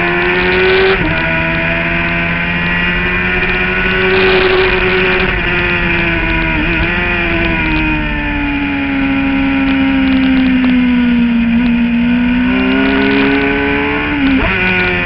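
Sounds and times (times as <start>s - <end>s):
motorcycle engine at speed: 0.0s - 15.0s.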